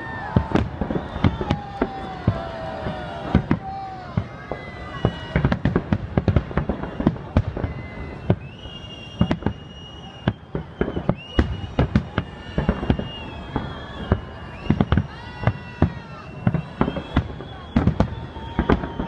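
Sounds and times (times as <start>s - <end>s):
firework bangs and crackles: 0.0s - 19.0s
whistling firework shells: 0.0s - 19.0s.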